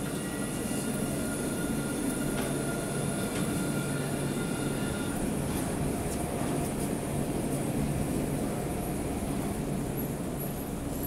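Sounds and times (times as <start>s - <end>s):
tram rumble and hum: 0.0s - 11.0s.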